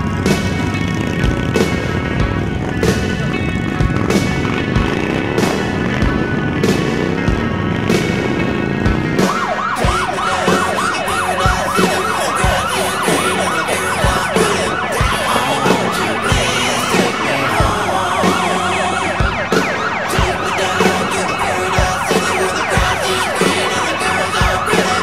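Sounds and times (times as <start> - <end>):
yelping sirens wailing: 0.0 - 25.0.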